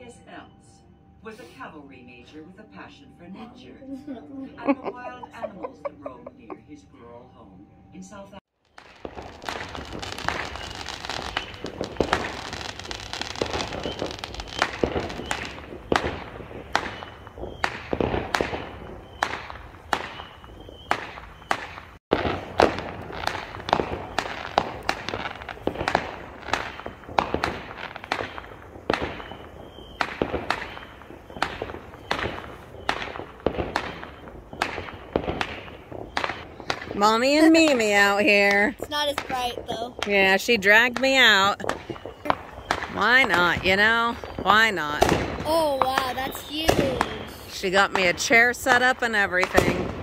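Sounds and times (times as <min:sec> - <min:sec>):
fireworks bangs and crackles: 0:08.6 - 0:50.0.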